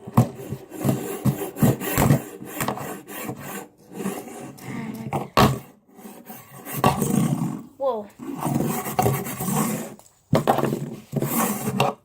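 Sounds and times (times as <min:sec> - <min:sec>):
fidget spinners scraping wood: 0:00.0 - 0:12.0.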